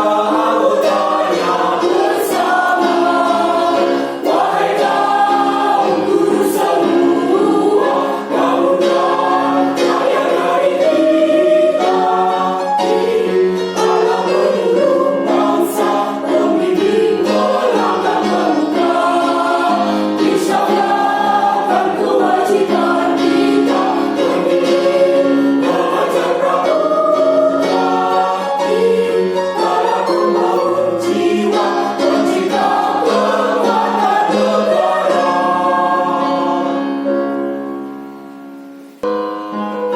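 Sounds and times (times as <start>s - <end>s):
choir singing: 0.0s - 38.4s.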